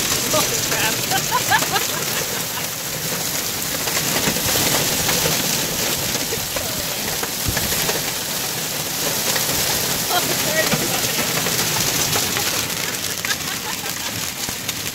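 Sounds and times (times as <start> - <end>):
heavy rain and hail pelting: 0.0 - 14.9.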